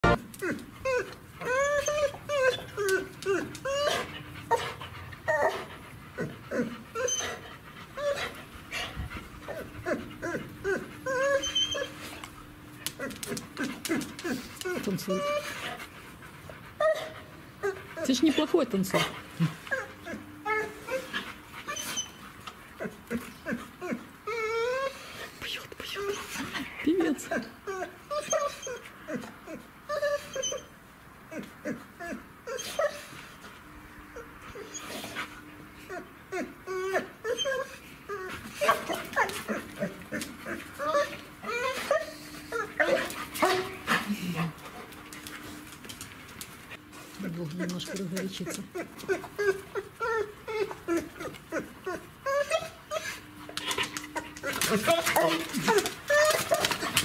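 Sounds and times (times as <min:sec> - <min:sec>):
dog whining: 0:00.0 - 0:08.9, 0:09.5 - 0:12.2, 0:13.0 - 0:15.8, 0:16.8 - 0:25.3, 0:27.3 - 0:33.2, 0:35.8 - 0:44.5, 0:47.6 - 0:57.0.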